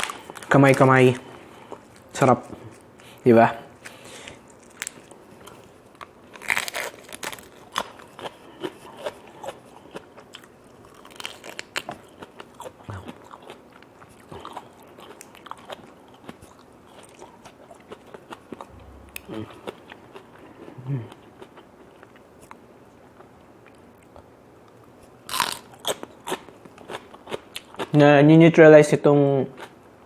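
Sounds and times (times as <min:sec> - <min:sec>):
close-up chewing and crunching: 0:03.8 - 0:28.0.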